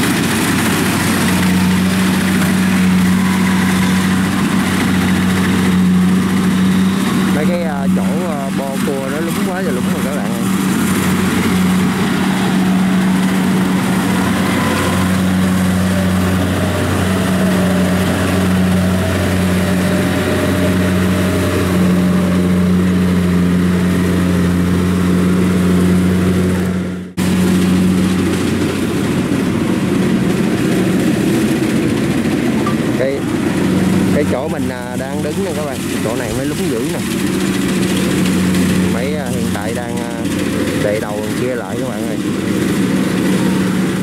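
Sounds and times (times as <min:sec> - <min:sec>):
diesel engine running under load: 0:00.0 - 0:44.0.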